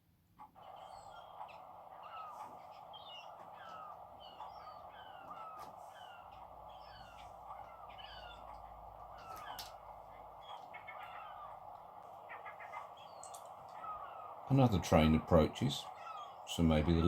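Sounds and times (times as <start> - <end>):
background hiss: 0.1 - 17.0
gulls calling: 0.4 - 17.0
low rumble: 0.6 - 17.0.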